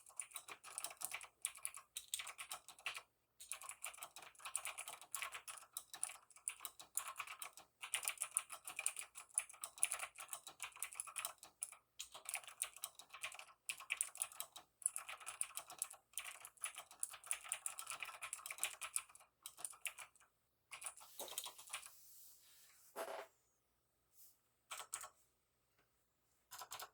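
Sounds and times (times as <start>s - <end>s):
fast typing on mechanical keyboard: 0.0s - 21.9s, 24.7s - 25.1s, 26.5s - 26.9s.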